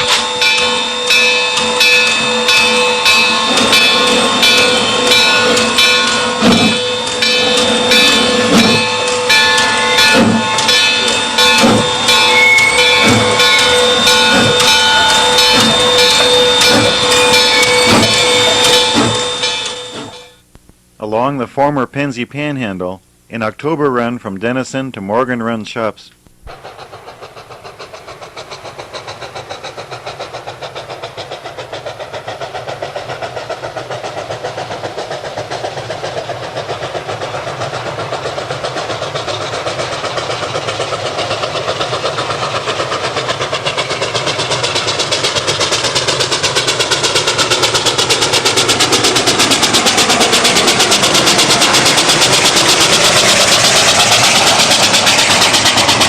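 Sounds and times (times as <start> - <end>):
steam locomotive exhaust beating: 0.0 - 20.5, 26.4 - 56.0.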